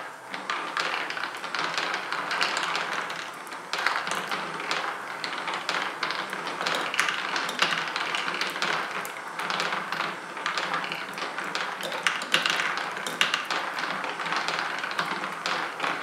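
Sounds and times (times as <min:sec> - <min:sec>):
marbles rolling on plastic tracks: 0:00.3 - 0:16.0.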